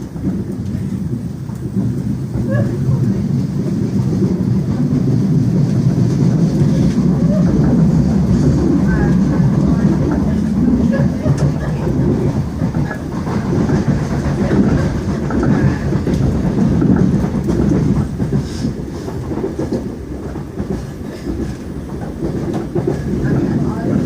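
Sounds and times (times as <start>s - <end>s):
train rumble inside carriage: 0.0s - 24.0s
wheels clicking on track: 0.0s - 24.0s.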